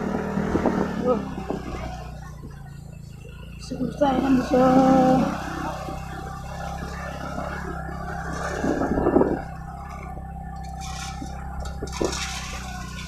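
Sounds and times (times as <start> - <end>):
bike rolling on rough dirt road: 0.0 - 13.0
motorcycle engine at low speed: 0.0 - 13.0.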